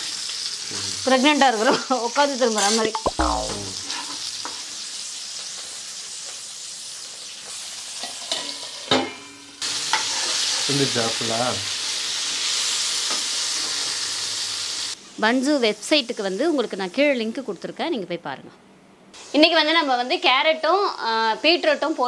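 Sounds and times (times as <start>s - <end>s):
fish sizzling in oil: 0.0s - 17.5s, 19.2s - 22.0s.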